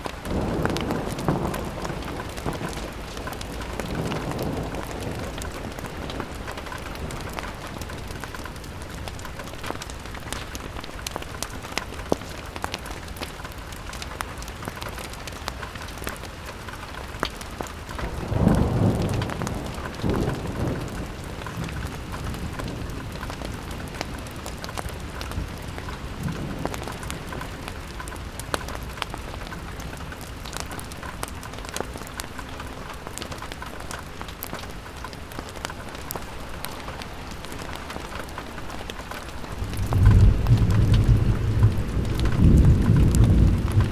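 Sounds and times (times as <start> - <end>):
rain on a window: 0.0 - 43.9
raindrop ticks: 0.0 - 43.9.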